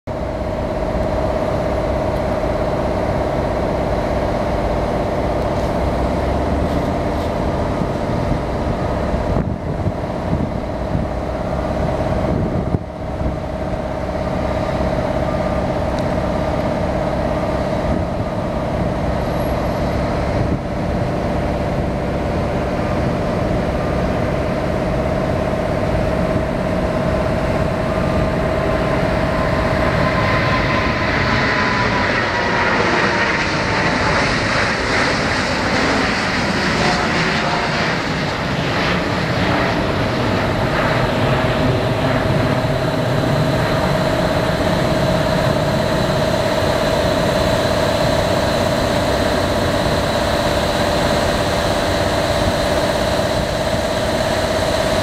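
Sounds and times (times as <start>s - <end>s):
jet engines at takeoff thrust: 0.0s - 55.0s.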